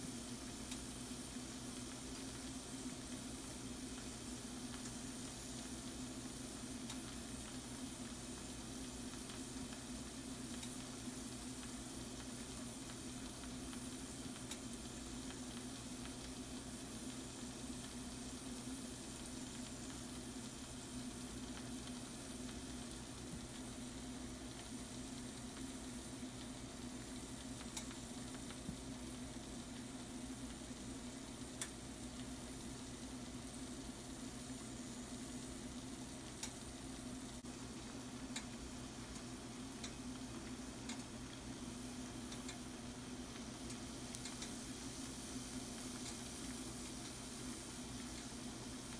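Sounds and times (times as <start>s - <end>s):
food sizzling in a frying pan: 0.0s - 48.9s.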